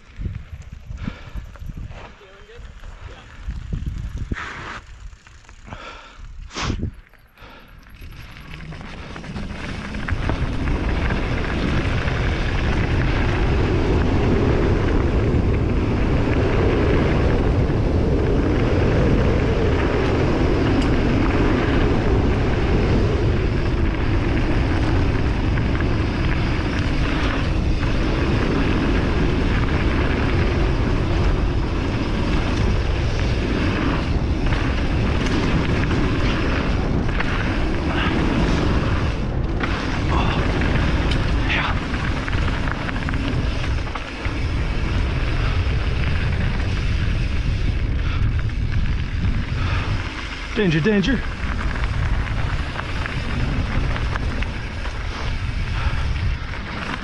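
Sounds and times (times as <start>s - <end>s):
bike tyres rolling on gravel: 0.0s - 57.0s
wind rushing over microphone: 0.0s - 57.0s.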